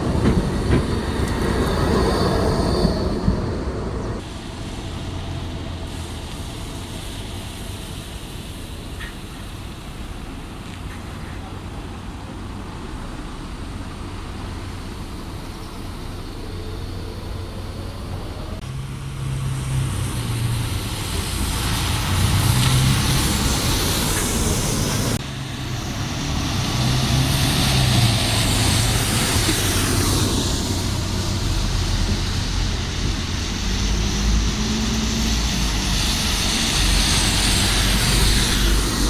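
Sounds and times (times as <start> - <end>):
heavy vehicle engine approaching: 0.0 - 39.0
street traffic noise: 0.0 - 39.0.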